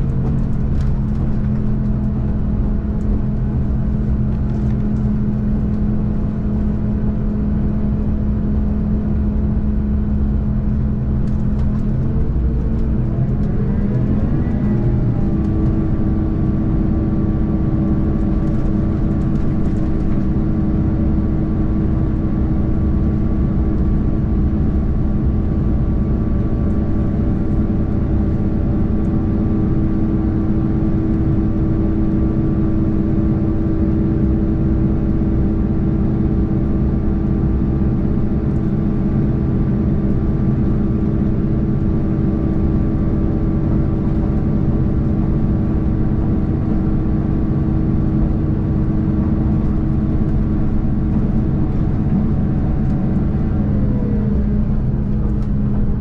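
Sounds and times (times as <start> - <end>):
diesel engine drone: 0.0 - 56.0
train rolling rumble: 0.0 - 56.0.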